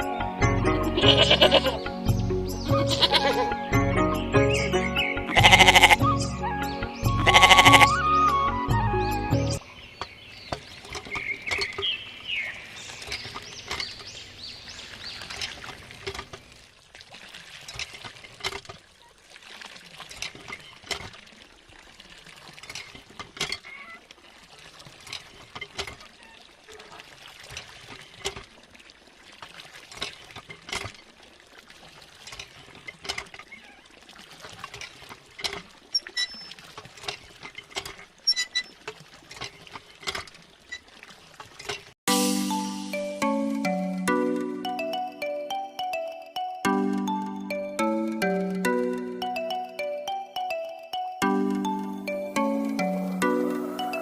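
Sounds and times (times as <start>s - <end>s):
water pouring and trickling: 9.6s - 54.0s.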